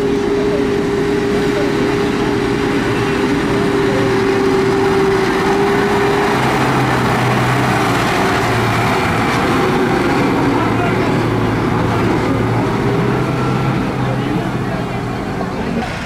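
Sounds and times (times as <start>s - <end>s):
high steady whine: 0.0s - 16.0s
tractor diesel engine running: 0.0s - 16.0s.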